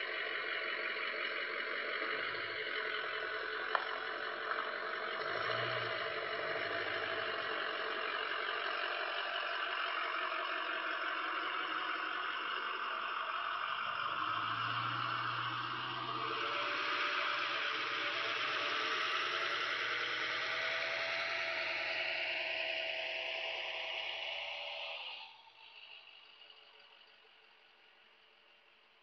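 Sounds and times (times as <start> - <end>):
vehicle engine hum: 0.0 - 29.0.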